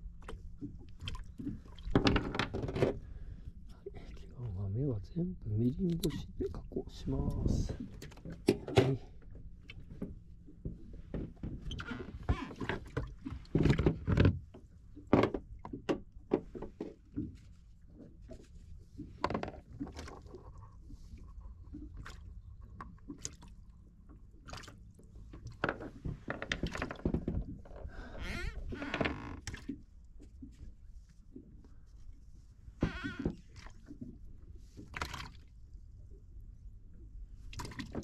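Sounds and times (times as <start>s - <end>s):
water sloshing against boat hull: 0.0s - 4.7s, 5.4s - 38.0s.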